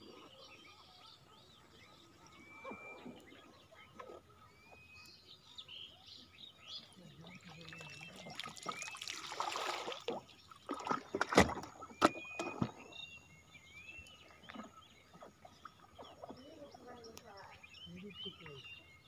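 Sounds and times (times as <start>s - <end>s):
birds chirping: 0.0s - 19.0s
water swishing around a raft: 1.7s - 5.5s, 6.2s - 18.6s.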